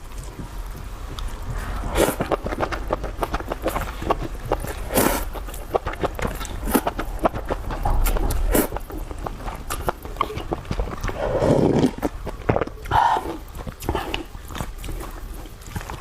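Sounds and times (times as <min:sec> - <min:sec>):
wet chewing and lip-smacking: 0:00.0 - 0:16.0
slurping: 0:01.2 - 0:16.0.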